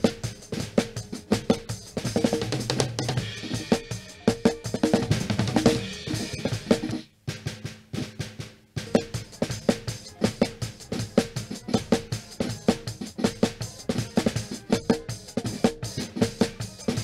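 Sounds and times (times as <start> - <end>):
drum kit playing: 0.0 - 17.0.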